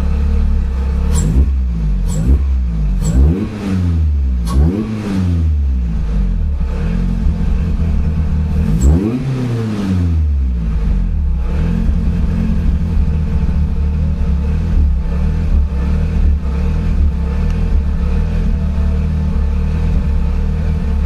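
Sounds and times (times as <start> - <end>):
car engine idling roughly: 0.0 - 3.3, 5.6 - 9.2, 10.1 - 21.0.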